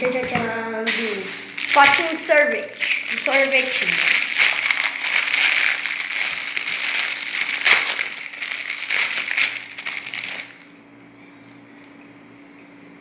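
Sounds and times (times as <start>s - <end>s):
plastic wrapping crinkling: 0.0s - 10.8s.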